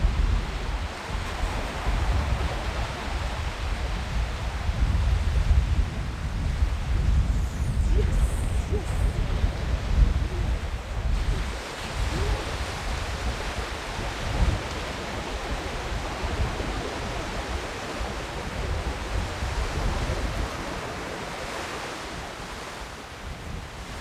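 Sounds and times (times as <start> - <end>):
sea waves washing onto beach: 0.0 - 24.0
wind buffeting microphone: 0.0 - 24.0.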